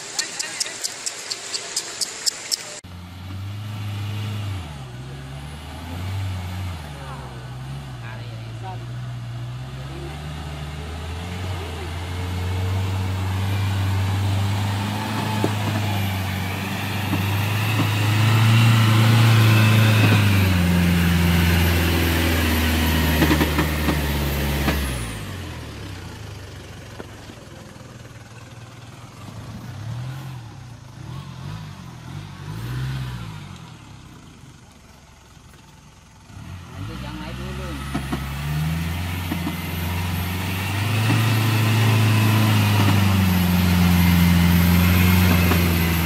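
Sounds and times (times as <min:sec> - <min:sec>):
engine revving through mud: 0:00.0 - 0:34.7, 0:35.5 - 0:46.0.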